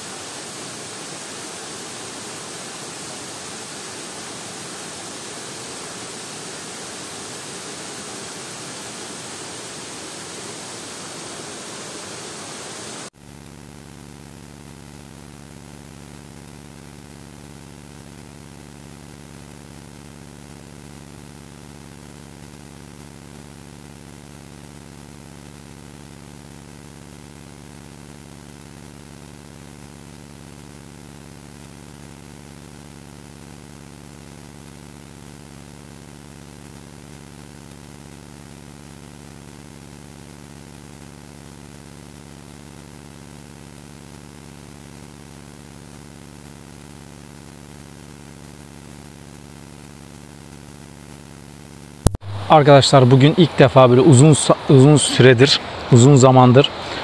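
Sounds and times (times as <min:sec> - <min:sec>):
steady motor hum: 0:00.0 - 0:53.4.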